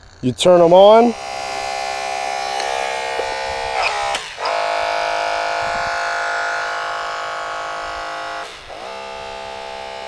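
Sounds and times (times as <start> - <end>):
hydraulic tool motor whine: 0.0 - 10.0.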